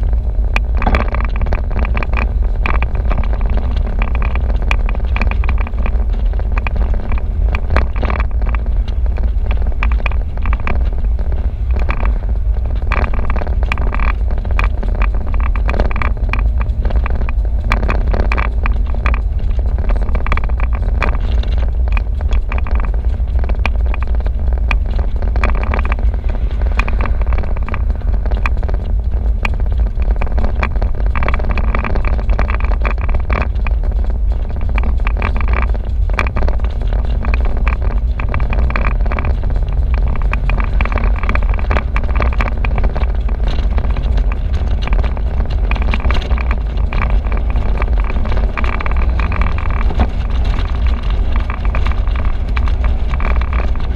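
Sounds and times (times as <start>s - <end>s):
car engine: 0.0s - 53.9s
road noise: 0.0s - 53.9s
wind buffeting on microphone: 0.0s - 53.9s.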